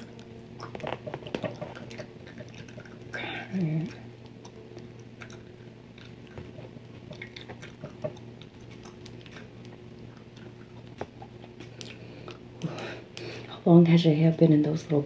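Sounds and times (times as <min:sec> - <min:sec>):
gum chewing: 0:00.0 - 0:13.5
faint hum: 0:00.0 - 0:15.0.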